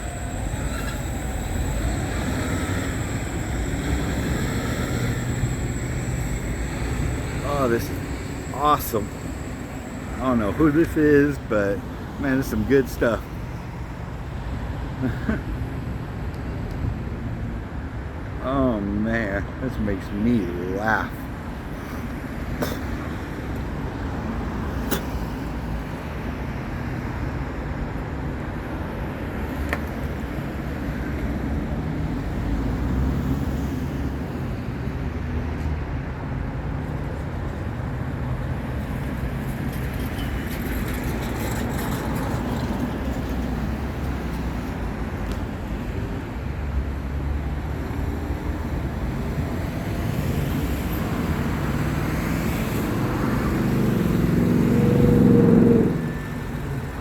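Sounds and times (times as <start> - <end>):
passing vehicles: 0.0 - 57.0.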